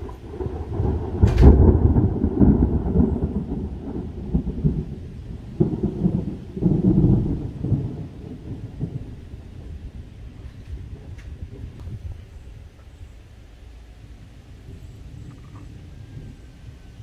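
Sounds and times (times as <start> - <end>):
thunder rolling: 0.0 - 17.0.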